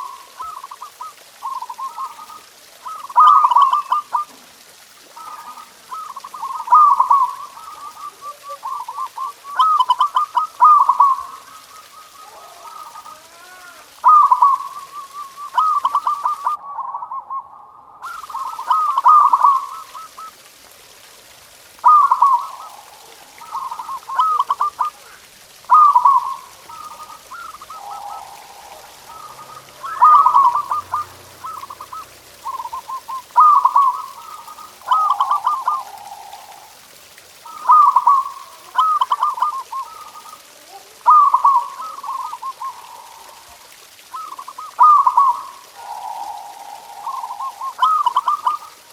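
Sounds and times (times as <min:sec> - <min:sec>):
dove cooing: 0:00.0 - 0:20.4, 0:21.2 - 0:48.9.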